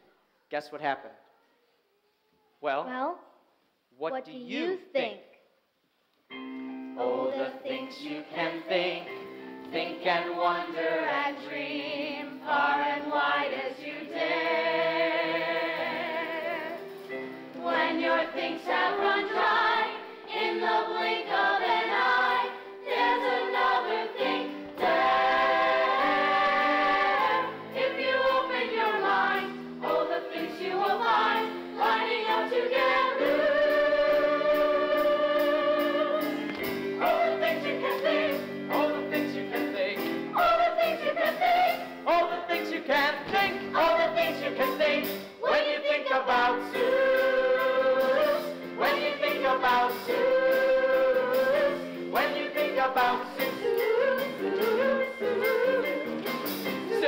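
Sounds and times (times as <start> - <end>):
stage cast singing in chorus: 7.0 - 57.0.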